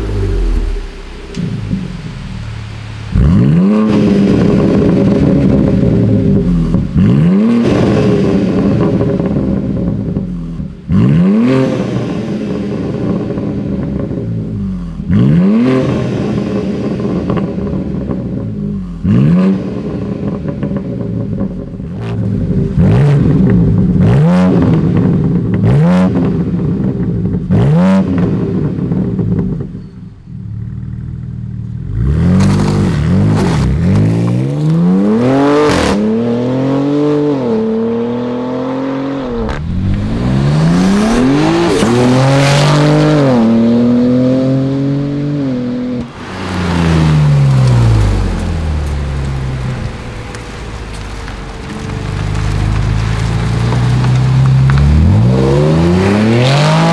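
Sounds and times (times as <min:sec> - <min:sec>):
car engine rev blips: 0:00.0 - 0:56.9.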